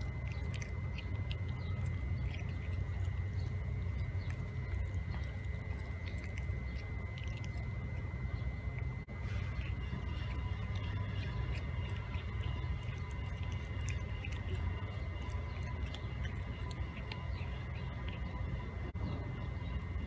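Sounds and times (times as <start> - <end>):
cat chewing crunchy food: 0.0 - 20.0
low background rumble: 0.0 - 20.0.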